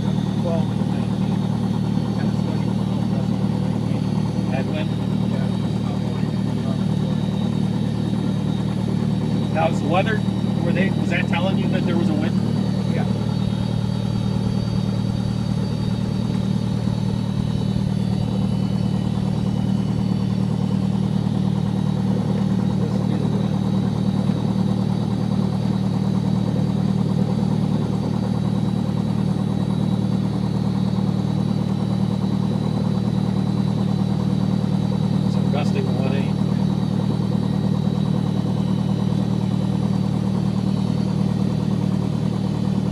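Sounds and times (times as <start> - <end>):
light aircraft engine droning: 0.0 - 42.9.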